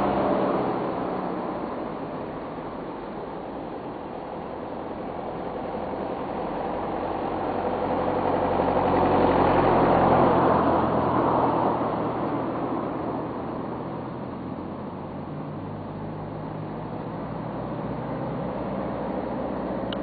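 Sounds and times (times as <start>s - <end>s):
vehicle passing by: 0.0s - 20.0s.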